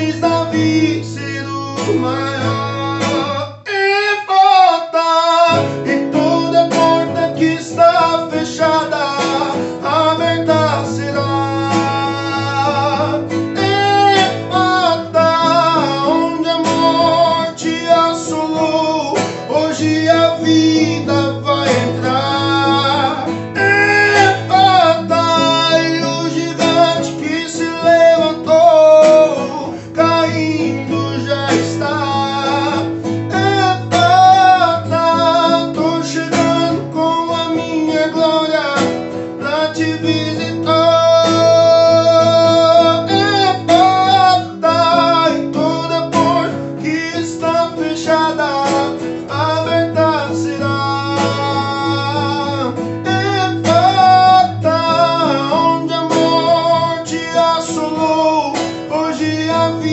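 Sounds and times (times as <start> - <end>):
acoustic guitar strumming: 0.0 - 59.9
man singing a hymn: 0.0 - 59.9.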